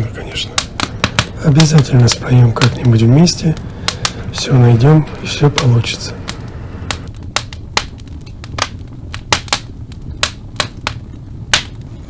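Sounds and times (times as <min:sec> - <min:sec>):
low steady rumble: 0:00.0 - 0:12.0
wood fire crackling: 0:00.0 - 0:12.0.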